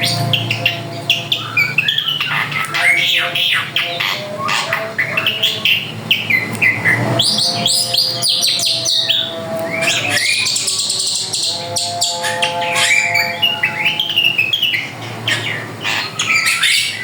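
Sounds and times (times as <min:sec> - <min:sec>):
bird singing whistles and chatter: 0:00.0 - 0:17.0.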